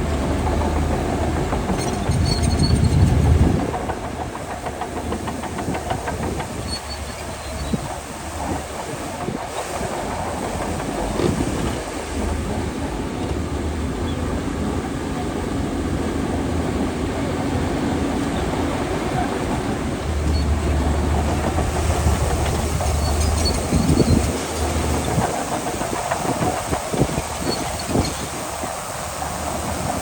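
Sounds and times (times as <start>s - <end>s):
bulldozer diesel engine: 0.0s - 30.0s
bulldozer tracks clattering: 0.0s - 30.0s.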